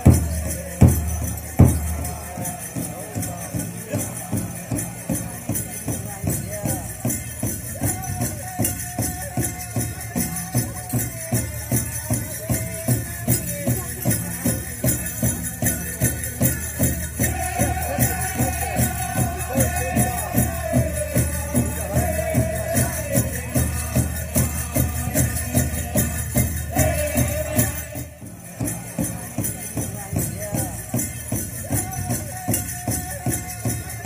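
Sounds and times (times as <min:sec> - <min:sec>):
big drum beating: 0:00.0 - 0:31.8
high held singing voices: 0:00.0 - 0:34.0.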